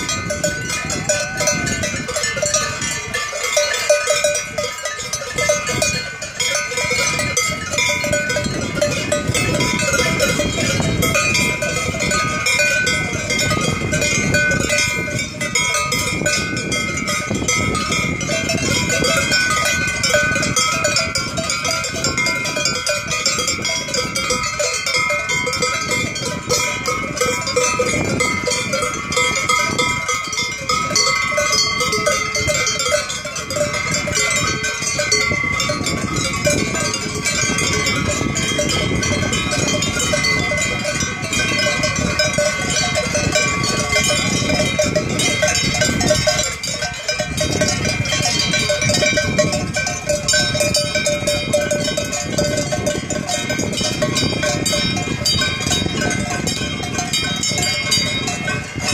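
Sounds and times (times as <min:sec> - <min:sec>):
cowbells ringing: 0:00.0 - 0:58.9.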